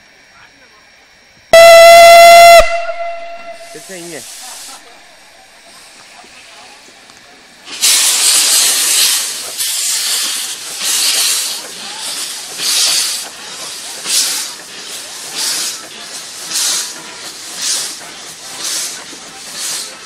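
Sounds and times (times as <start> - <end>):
steam locomotive exhaust chuffs: 1.6 - 20.0
loud steam hiss: 3.4 - 20.0.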